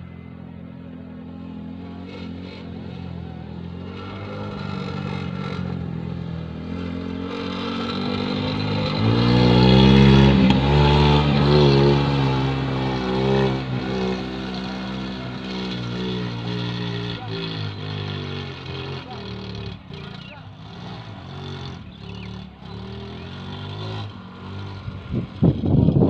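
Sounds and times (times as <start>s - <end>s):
motorcycle engine revving: 1.3s - 26.0s.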